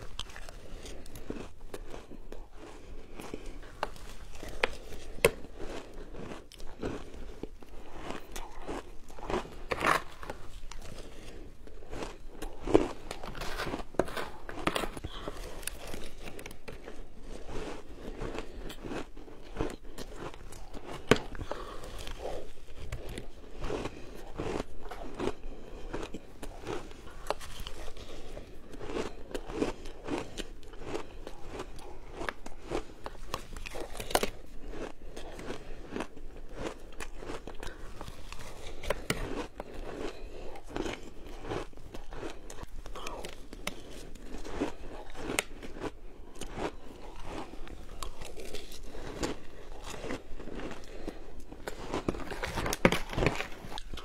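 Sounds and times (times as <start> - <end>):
person crunching shaved ice: 0.0 - 54.0.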